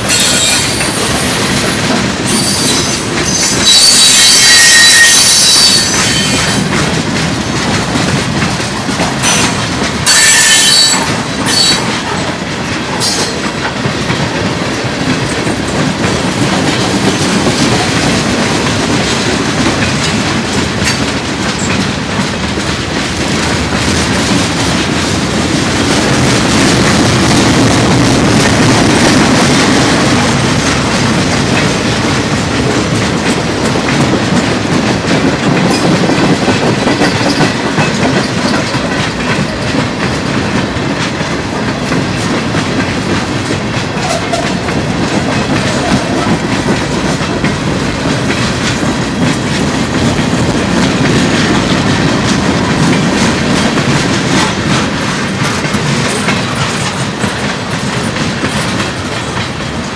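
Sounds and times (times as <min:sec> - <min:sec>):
train wheels rumbling on rails: 0:00.0 - 0:59.9
wheels clicking over rail joints: 0:05.7 - 0:59.9.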